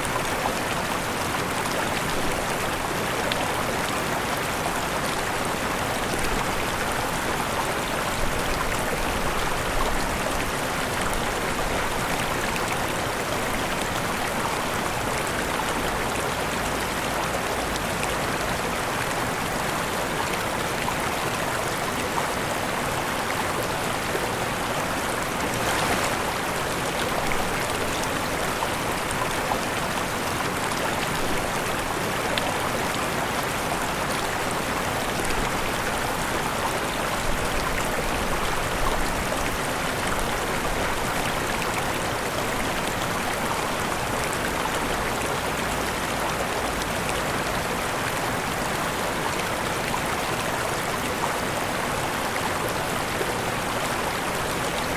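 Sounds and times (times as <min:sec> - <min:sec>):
water rushing and splashing: 0:00.0 - 0:54.9.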